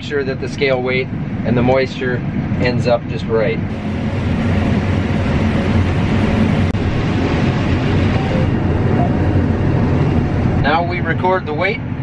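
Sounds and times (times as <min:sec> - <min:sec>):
combine engine drone: 0:00.0 - 0:12.0.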